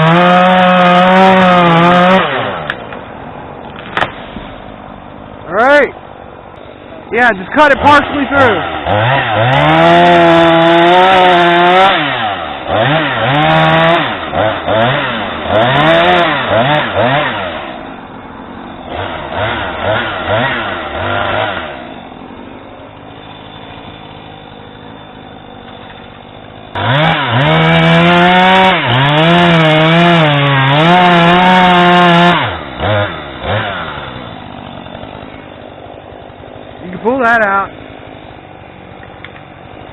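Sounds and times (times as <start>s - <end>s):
chainsaw cutting into a tree: 0.0s - 2.9s, 7.6s - 39.9s
chainsaw idling: 0.0s - 39.9s.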